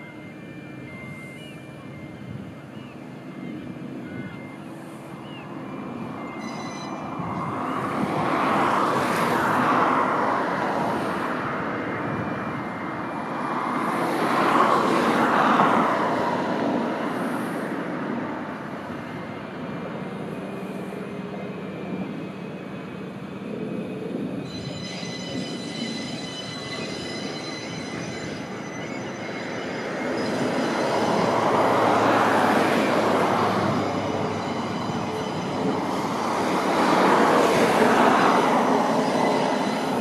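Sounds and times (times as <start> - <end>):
vehicles passing by: 0.0 - 24.6, 27.2 - 40.0.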